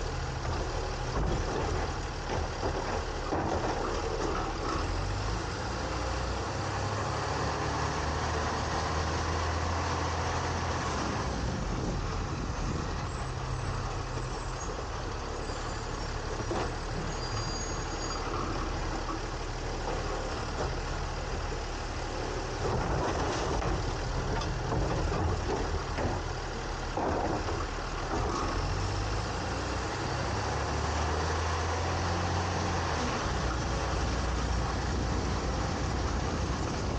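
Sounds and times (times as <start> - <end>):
garbage truck engine running: 0.0 - 36.9
road and machinery noise: 0.0 - 36.9.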